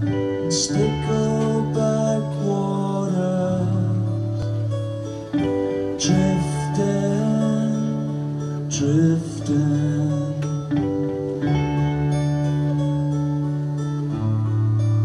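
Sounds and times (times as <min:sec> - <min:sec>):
acoustic and electric guitars strumming: 0:00.0 - 0:15.0.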